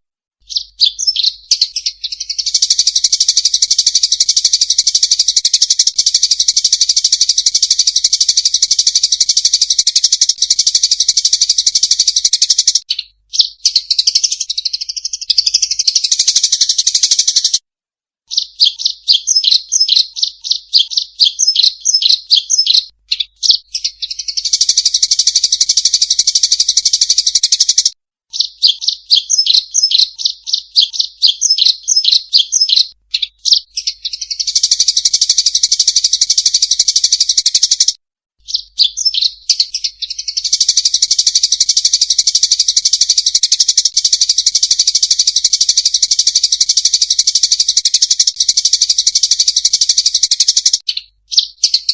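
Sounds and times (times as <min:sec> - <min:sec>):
sparrows chirping and chattering: 0:00.4 - 0:17.6, 0:18.3 - 0:51.9.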